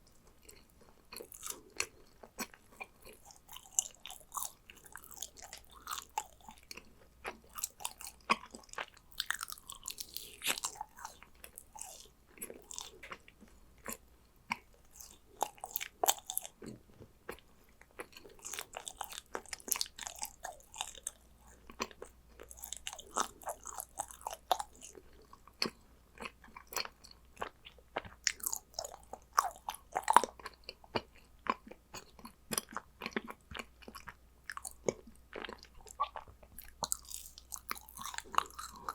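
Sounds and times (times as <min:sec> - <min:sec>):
crunchy chewing of cookies: 0:00.0 - 0:38.9.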